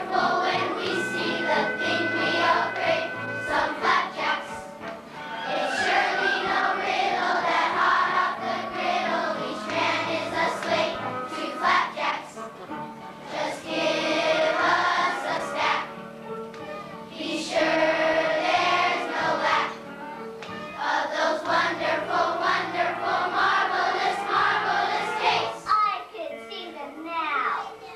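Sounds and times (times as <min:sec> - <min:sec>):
children's choir singing: 0:00.0 - 0:16.1, 0:16.9 - 0:25.7
musical accompaniment: 0:00.0 - 0:27.9.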